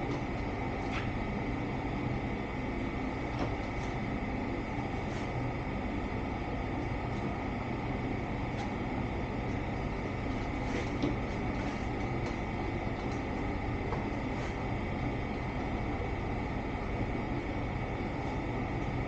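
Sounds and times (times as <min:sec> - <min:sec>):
machine droning: 0:00.0 - 0:19.0.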